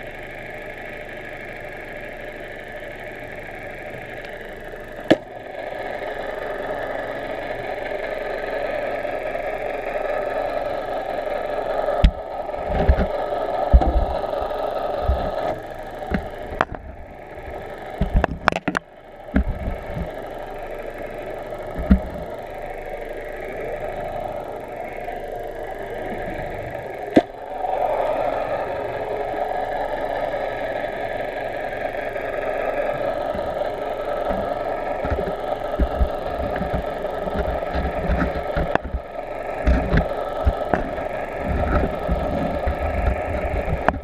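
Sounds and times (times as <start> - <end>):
boat motor underwater: 0.0 - 44.0.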